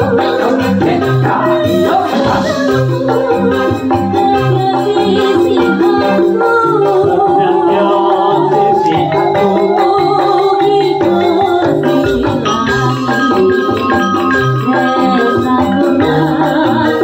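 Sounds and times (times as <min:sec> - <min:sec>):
woman singing into microphone: 0:00.0 - 0:12.8, 0:14.5 - 0:17.0
live band music: 0:00.0 - 0:17.0.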